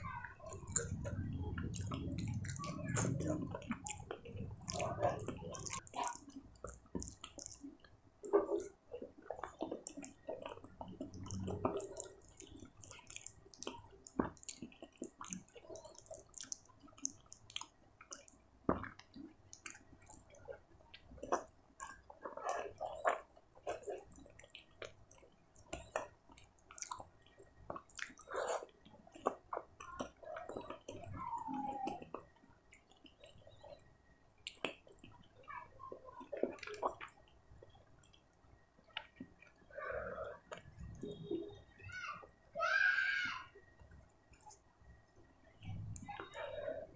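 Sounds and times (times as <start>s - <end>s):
chewing: 0.0s - 41.7s
hand squishing rice and curry: 0.5s - 41.8s.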